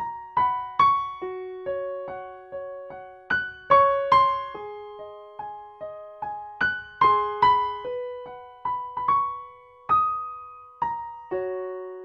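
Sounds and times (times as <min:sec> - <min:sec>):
solo piano melody: 0:00.0 - 0:12.0.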